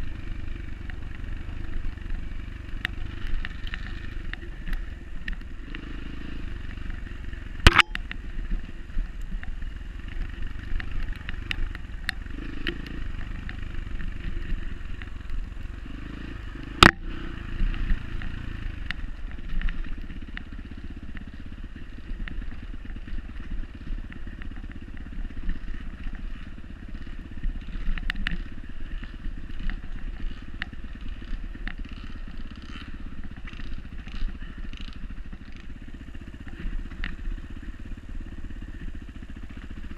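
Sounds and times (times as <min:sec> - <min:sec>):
clatter over rough ground: 0:00.0 - 0:39.9
dirt bike engine running: 0:00.0 - 0:39.9.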